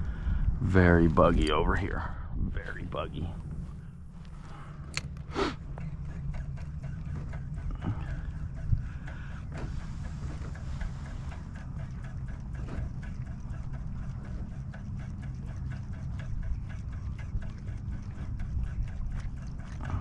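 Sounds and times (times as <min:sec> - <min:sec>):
steady low rumble: 0:00.0 - 0:20.0
fishing reel ticking: 0:03.2 - 0:20.0.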